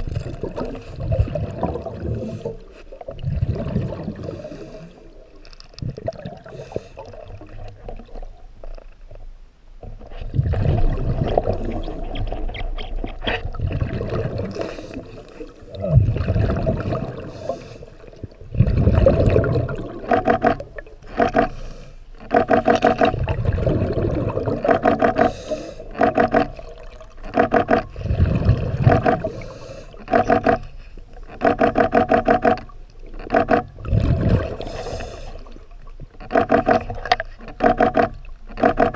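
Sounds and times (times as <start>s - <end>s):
exhaled bubbles rumbling underwater: 0.0s - 38.9s.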